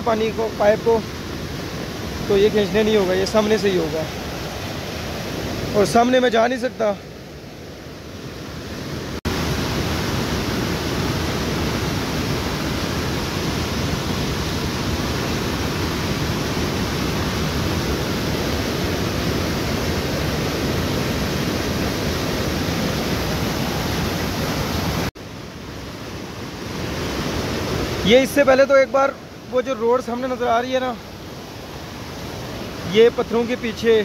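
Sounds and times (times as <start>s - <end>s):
stream rushing over boulders: 0.0s - 34.0s.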